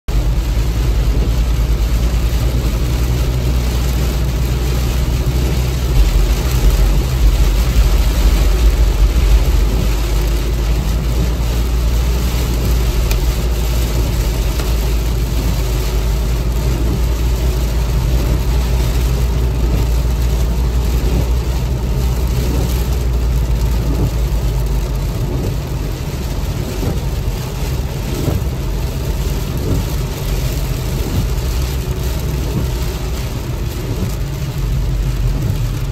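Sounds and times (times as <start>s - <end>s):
road and engine rumble: 0.0s - 35.9s
rain and tyre spray hiss: 0.1s - 35.9s.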